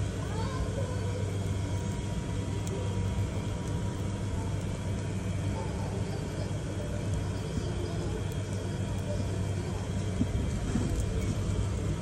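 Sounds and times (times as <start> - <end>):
griddle rumble and hiss: 0.0 - 12.0.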